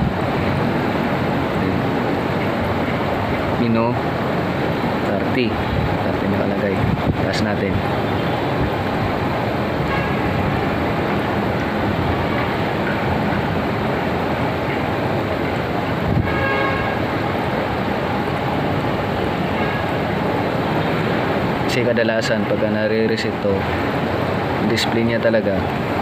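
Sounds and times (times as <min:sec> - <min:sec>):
pump water rushing: 0:00.0 - 0:26.0.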